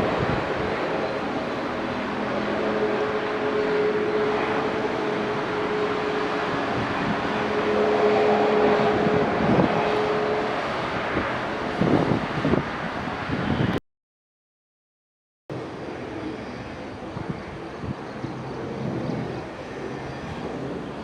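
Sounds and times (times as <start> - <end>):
jet engine rushing whine: 0.0 - 13.8, 15.5 - 21.0
wind gusts on microphone: 0.0 - 13.8, 15.5 - 21.0.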